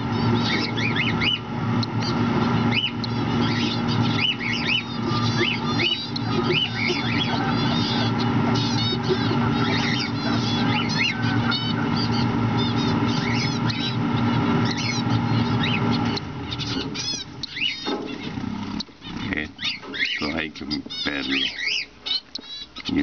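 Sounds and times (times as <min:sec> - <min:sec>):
cockatiels chirping: 0:00.0 - 0:23.0
steady low hum: 0:00.0 - 0:23.0.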